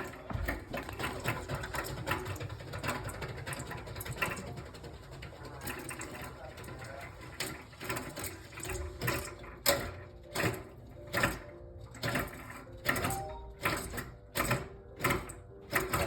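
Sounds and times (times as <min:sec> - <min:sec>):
steam radiator pipes banging: 0:00.0 - 0:16.0.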